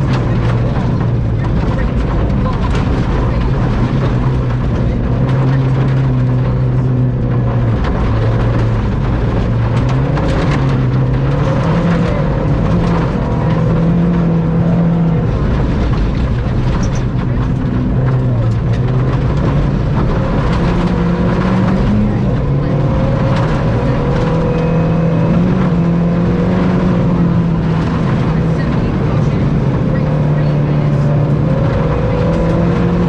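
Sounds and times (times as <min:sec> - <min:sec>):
rally car engine running hard: 0:00.0 - 0:33.0.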